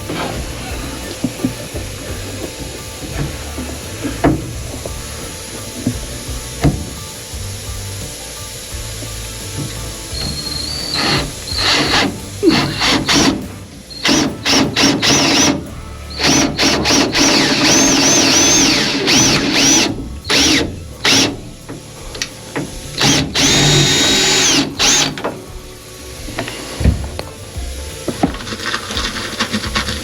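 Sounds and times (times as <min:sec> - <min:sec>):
power drill whining: 0:00.0 - 0:30.0.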